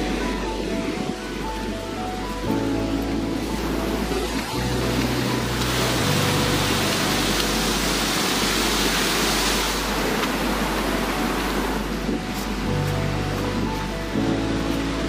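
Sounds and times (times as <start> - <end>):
water rushing over rock ledges: 0.0 - 15.0.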